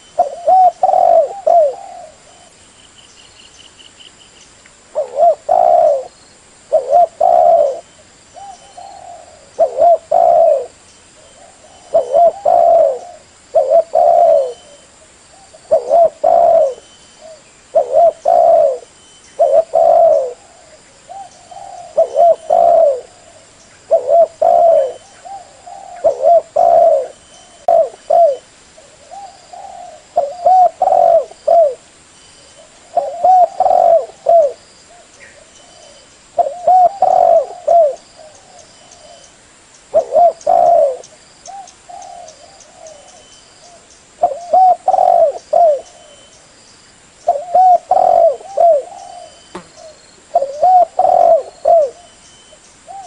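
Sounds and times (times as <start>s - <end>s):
dove cooing: 0.0s - 2.6s, 4.9s - 31.9s, 32.5s - 39.3s, 39.9s - 46.4s, 47.2s - 52.2s.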